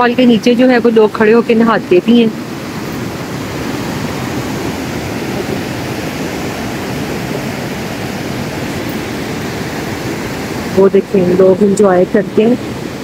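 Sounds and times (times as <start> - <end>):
waterfall and rapids rushing: 0.0 - 13.0.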